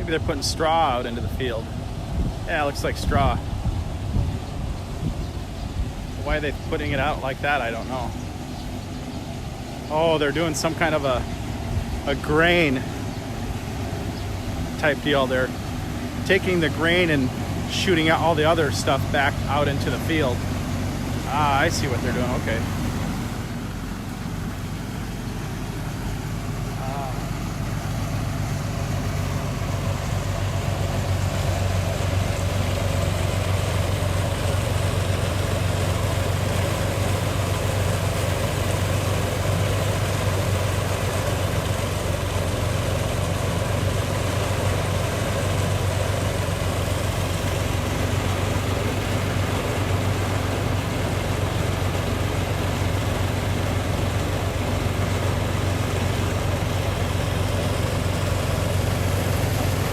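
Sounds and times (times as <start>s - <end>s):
threshing machine humming: 0.0s - 59.9s.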